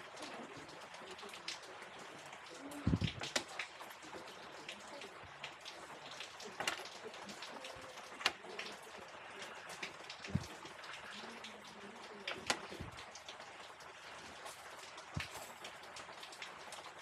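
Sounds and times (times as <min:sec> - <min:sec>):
drops ticking on hard surface: 0:00.0 - 0:17.0
rain falling: 0:00.0 - 0:17.0.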